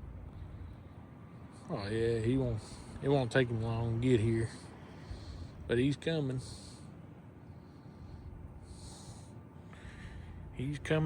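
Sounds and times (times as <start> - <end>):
faint low outdoor rumble: 0.0 - 11.0.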